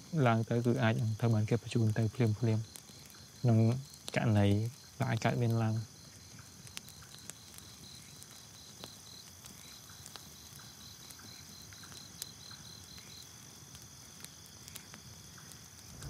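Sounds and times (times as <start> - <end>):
campfire crackling: 0.0 - 16.0
high pulsed insect chirping: 0.0 - 16.0
steady high insect hum: 0.0 - 16.0.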